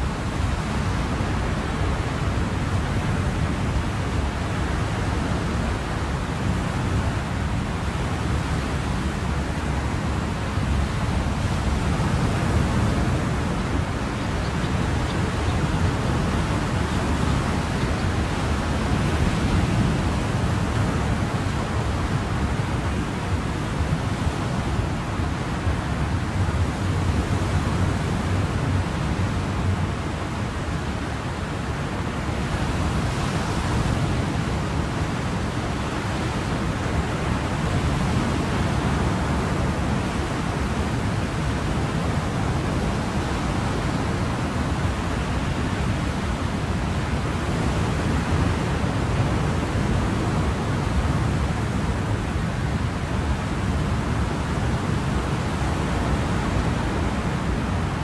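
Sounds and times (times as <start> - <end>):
ocean waves: 0.0 - 58.0.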